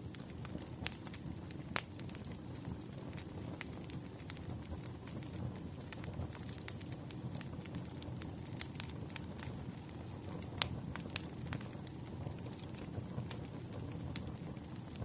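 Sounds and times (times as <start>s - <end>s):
fire rumbling: 0.0s - 15.0s
firewood crackling and popping: 0.0s - 15.0s.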